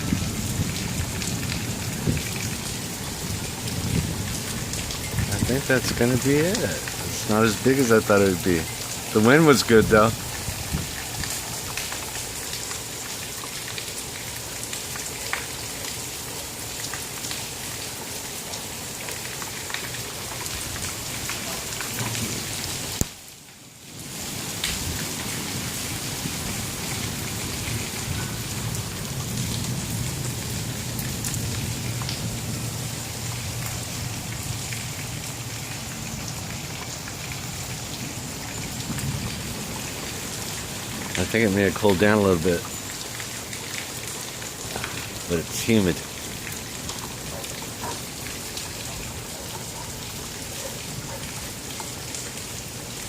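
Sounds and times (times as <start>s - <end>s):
raindrops ticking close by: 0.0s - 53.0s
steady rain: 0.0s - 53.0s.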